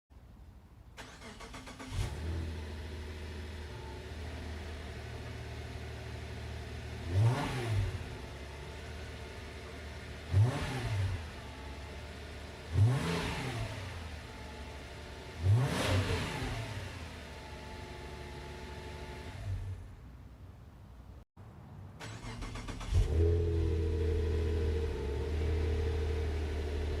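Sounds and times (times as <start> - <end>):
car engine starting and revving: 1.0 - 19.8, 22.0 - 27.0.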